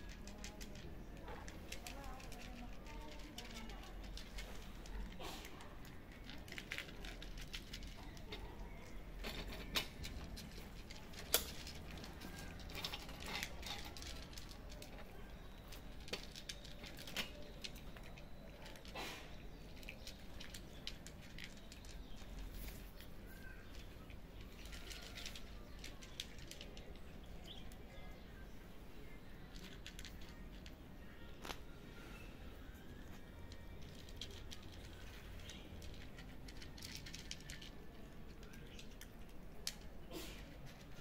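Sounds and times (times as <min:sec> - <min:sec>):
cats crunching dry kibble: 0:00.0 - 0:31.9, 0:32.6 - 0:41.0.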